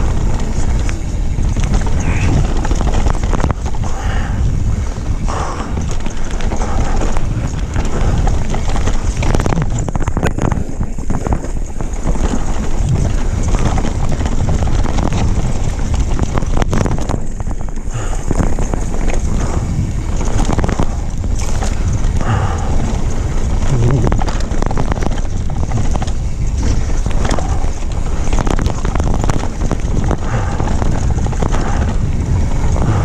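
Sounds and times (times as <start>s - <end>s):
bike rattling and knocking: 0.0s - 33.0s
tyres rumbling over dirt: 0.0s - 33.0s
wind buffeting microphone: 0.0s - 33.0s.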